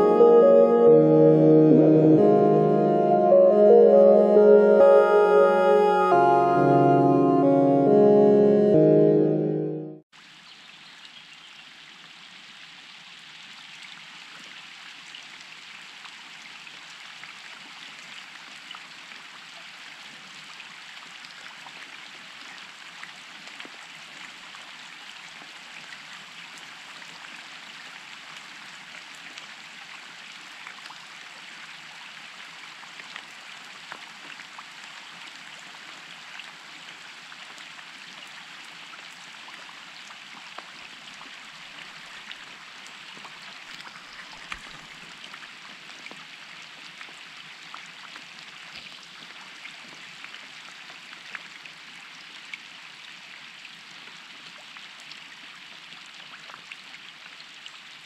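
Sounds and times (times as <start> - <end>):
rain falling on lake: 10.2 - 58.0.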